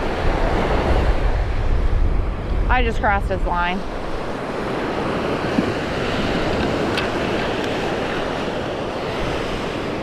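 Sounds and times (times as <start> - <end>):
surf breaking on beach: 0.0 - 10.0
wind on microphone: 0.0 - 10.0.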